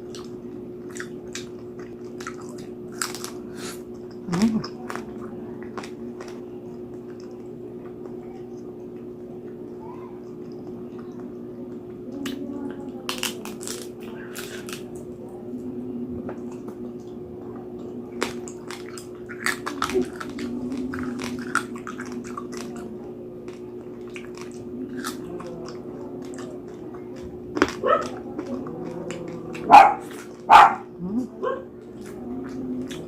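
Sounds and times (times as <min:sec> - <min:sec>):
chewing crispy pork skin: 0:00.0 - 0:33.0
steady low hum: 0:00.0 - 0:33.0.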